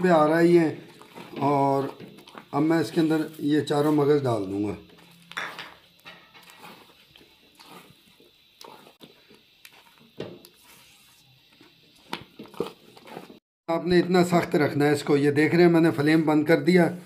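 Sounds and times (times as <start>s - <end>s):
spatula scraping pot: 0.0s - 14.3s.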